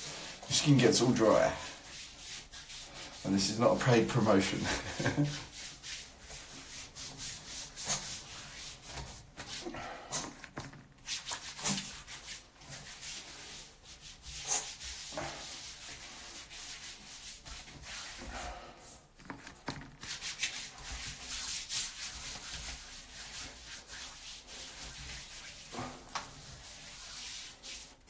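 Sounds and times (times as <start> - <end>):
hands rubbing cream on skin: 0.0 - 28.0.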